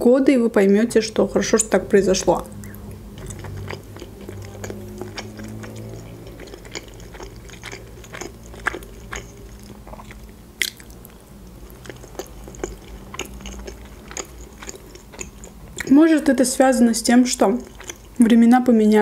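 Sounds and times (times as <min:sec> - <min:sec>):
chewing soft dumplings: 0:01.6 - 0:16.4, 0:17.0 - 0:18.4.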